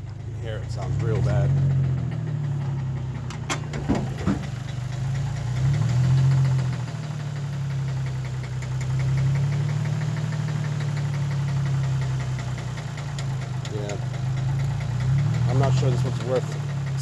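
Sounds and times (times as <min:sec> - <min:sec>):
car engine idling with knock: 0:00.0 - 0:17.0.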